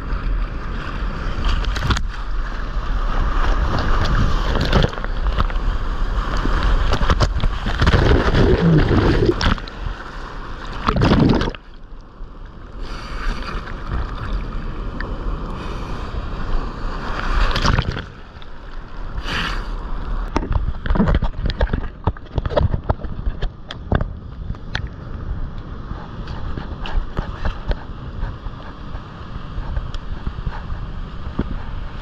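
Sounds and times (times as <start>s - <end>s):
wave wash surges: 0.0s - 21.6s, 24.2s - 32.0s
sea water splashing and sloshing: 0.0s - 32.0s.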